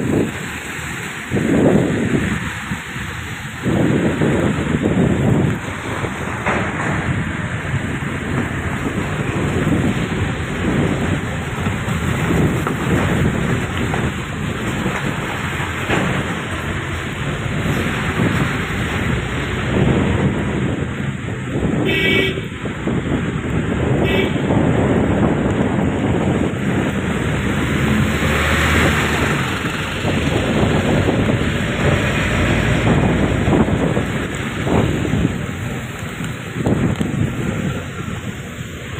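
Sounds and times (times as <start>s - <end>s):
vehicle rumble on wet road: 0.0s - 38.9s.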